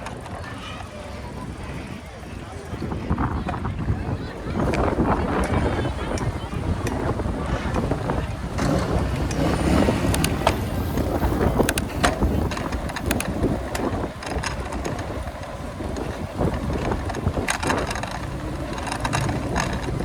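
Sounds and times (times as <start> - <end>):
bicycle clicks and rattles: 0.0 - 20.0
road and wind rumble: 0.0 - 20.0.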